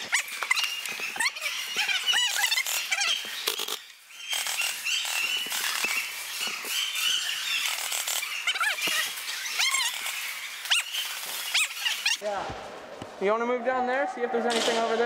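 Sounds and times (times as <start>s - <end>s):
short high squeaks: 0.0s - 12.2s.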